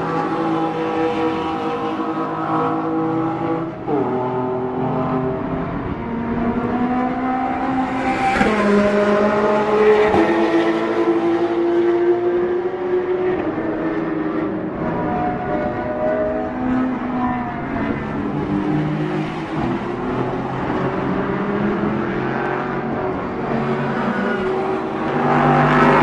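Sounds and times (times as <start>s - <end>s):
race car engines accelerating: 0.0s - 26.0s.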